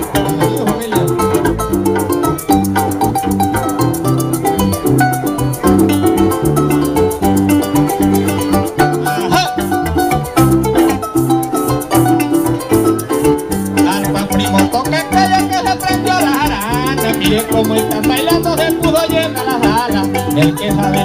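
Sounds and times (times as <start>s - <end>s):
maracas shaking: 0.0s - 21.0s
plucked harp melody: 0.0s - 21.0s
repeating bass line: 0.0s - 21.0s.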